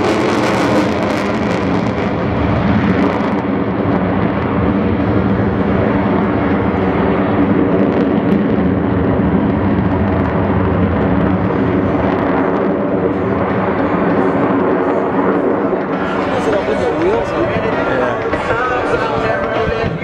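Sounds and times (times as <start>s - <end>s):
jet engine noise: 0.0s - 20.0s.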